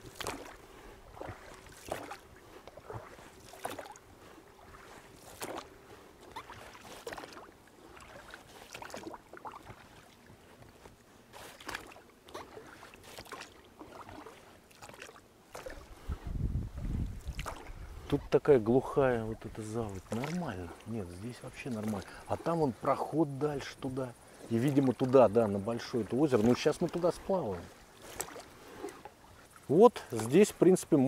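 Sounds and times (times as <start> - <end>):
oars splashing and dripping: 0.0 - 31.0.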